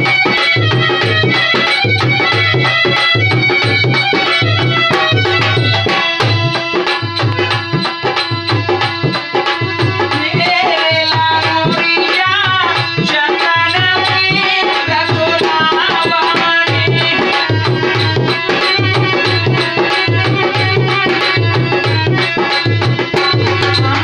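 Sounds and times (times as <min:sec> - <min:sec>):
hand drum beating: 0:00.0 - 0:24.0
harmonium: 0:00.0 - 0:24.0.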